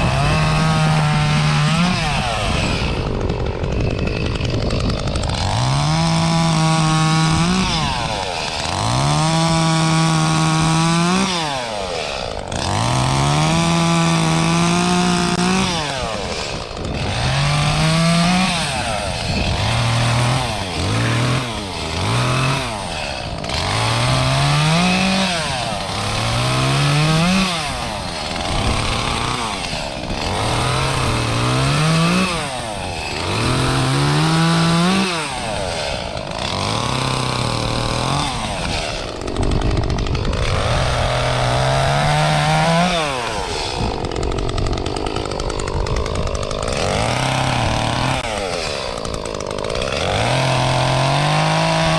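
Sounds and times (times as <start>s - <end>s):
chainsaw cutting: 0.0s - 51.9s.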